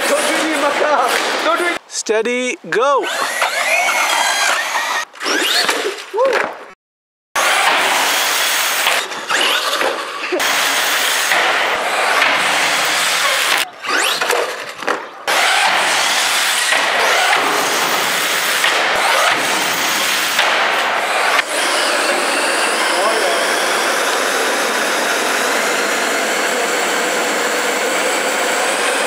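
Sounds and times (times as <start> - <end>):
tyre and ground noise: 0.0 - 6.8, 7.4 - 29.0
toy truck motor whining: 3.0 - 5.9, 7.4 - 20.4, 21.0 - 29.0.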